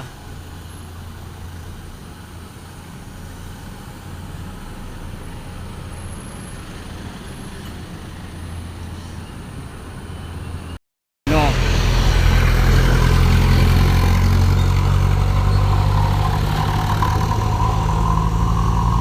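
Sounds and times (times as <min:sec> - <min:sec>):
truck engine droning: 0:00.0 - 0:08.7, 0:11.3 - 0:19.0
road traffic noise: 0:00.0 - 0:19.0.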